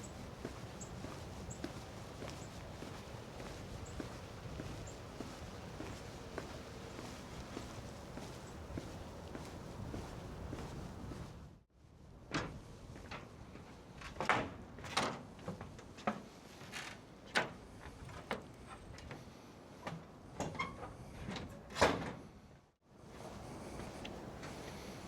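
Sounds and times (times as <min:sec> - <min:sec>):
low steady background noise: 0:00.0 - 0:20.4.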